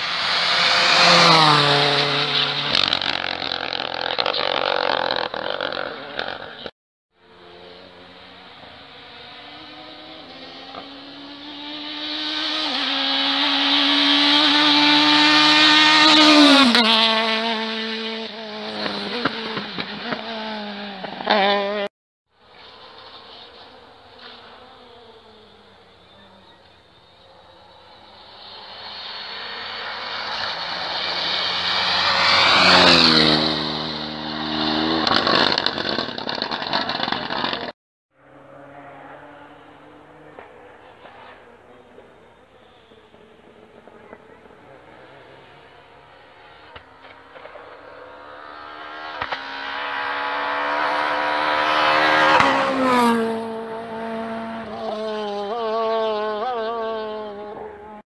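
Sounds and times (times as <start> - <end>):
rally car engine passing by: 0.0 - 21.9, 22.5 - 58.0.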